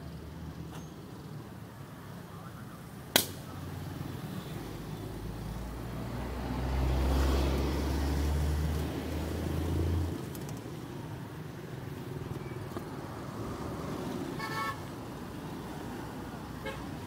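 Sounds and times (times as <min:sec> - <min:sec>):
street background: 0:00.0 - 0:17.0.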